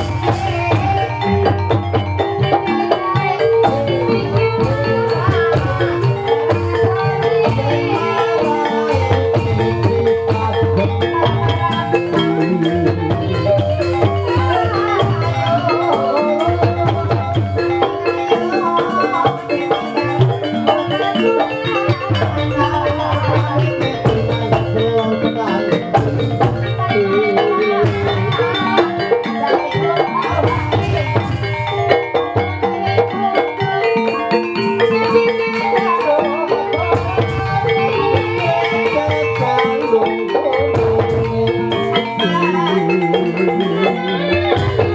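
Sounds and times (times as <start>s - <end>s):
metal and bamboo mallet instruments: 0.0s - 44.9s
steady drum beat: 0.0s - 44.9s.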